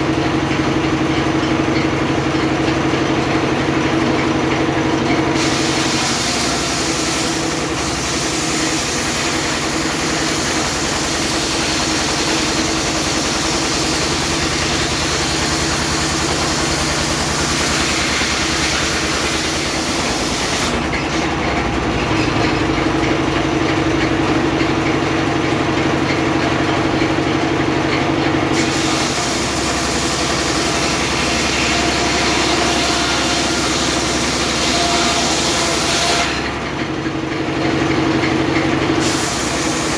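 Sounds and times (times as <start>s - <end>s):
sawmill machine hum: 0.0s - 39.9s.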